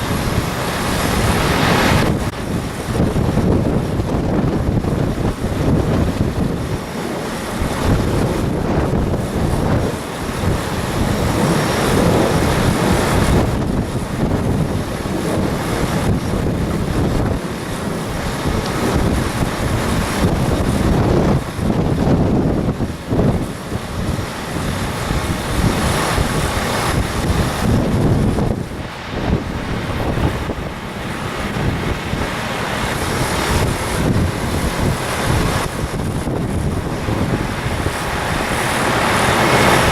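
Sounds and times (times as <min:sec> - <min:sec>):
gusty wind on microphone: 0:00.0 - 0:39.9.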